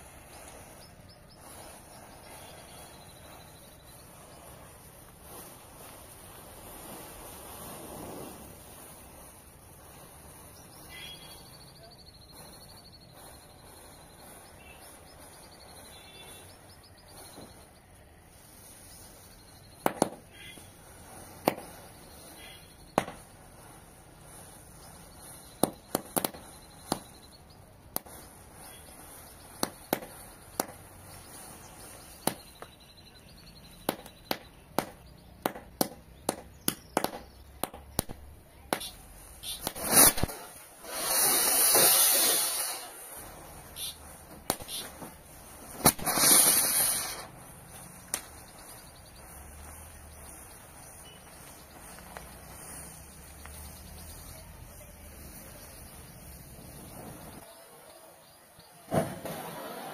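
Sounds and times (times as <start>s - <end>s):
burning matches popping and cracking: 0.0s - 57.6s, 58.4s - 59.9s.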